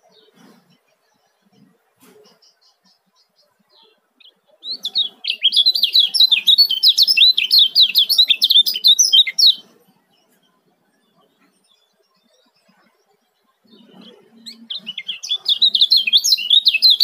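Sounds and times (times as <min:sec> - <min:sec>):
bird singing high chirps: 0:00.0 - 0:17.0.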